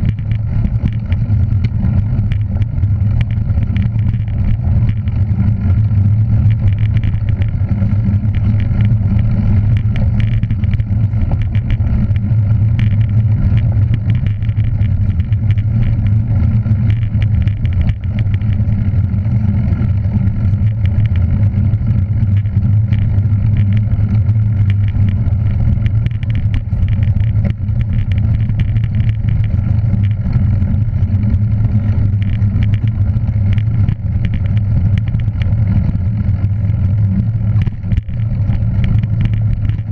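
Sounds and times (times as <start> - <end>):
vehicle engine running steadily: 0.0 - 39.9.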